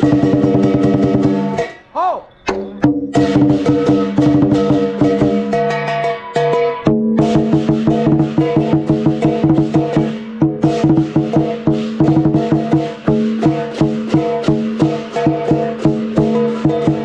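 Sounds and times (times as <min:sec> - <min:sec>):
lion dance drum beating fast: 0:00.0 - 0:17.0
percussion ringing: 0:00.0 - 0:17.0.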